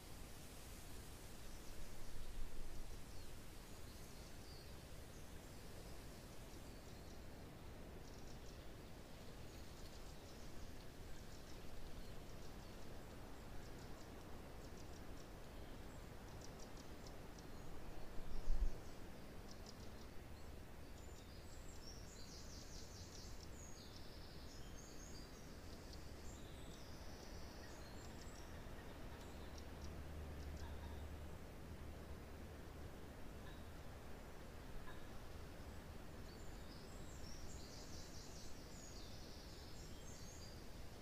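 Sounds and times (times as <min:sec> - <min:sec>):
wind through pine trees: 0:00.0 - 0:41.0.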